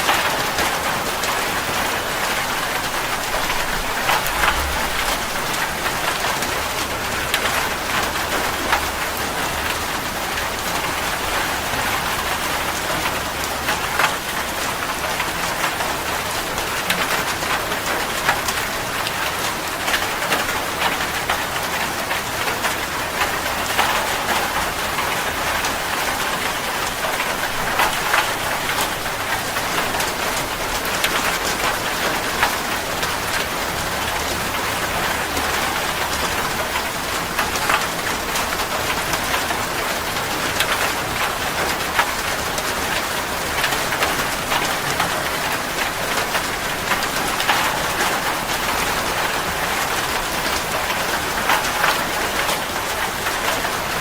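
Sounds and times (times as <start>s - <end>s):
raindrops ticking close by: 0.0s - 54.0s
steady rain hiss: 0.0s - 54.0s.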